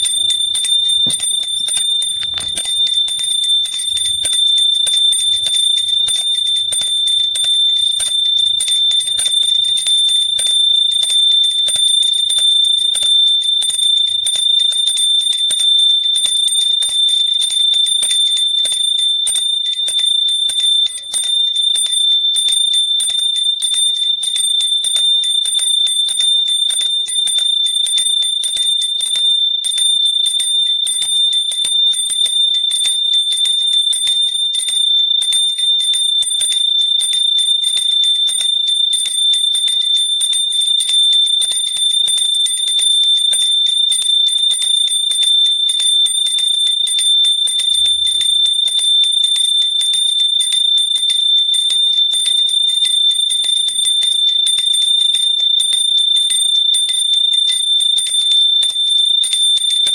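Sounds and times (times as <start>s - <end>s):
hand bell ringing: 0.0s - 59.9s.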